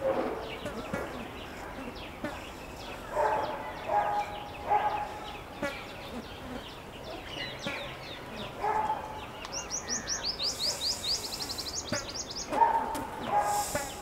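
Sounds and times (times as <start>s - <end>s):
sunbird chirping: 0.0s - 14.0s.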